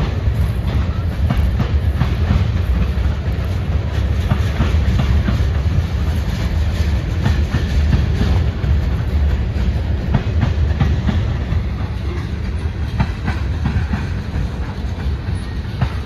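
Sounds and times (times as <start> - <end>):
train wheels rumbling on rail: 0.0 - 16.0
wheels clacking over rail joints: 0.0 - 16.0.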